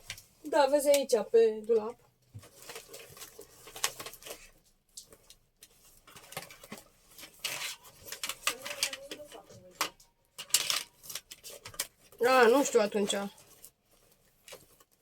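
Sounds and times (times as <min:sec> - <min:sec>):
paper rustling and scraping: 0:02.2 - 0:15.0.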